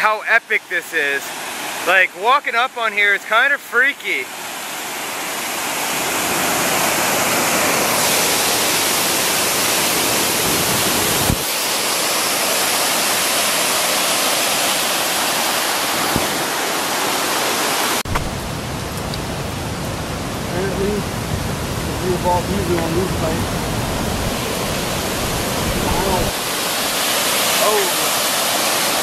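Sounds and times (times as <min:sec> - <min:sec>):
waterfall rushing: 0:00.0 - 0:03.4, 0:04.0 - 0:29.0.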